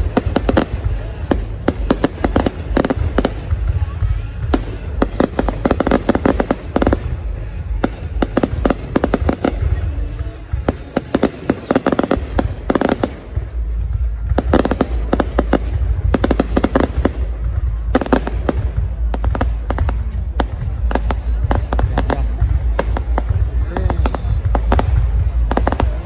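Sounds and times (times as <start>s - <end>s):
fireworks crackling pops: 0.0s - 26.0s.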